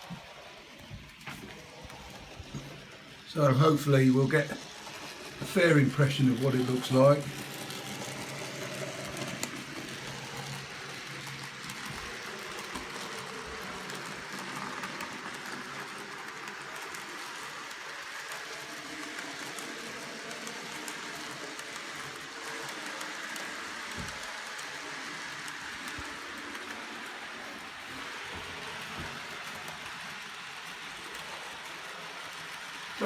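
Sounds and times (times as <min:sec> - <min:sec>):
model train whirring on rails: 0:00.0 - 0:33.0.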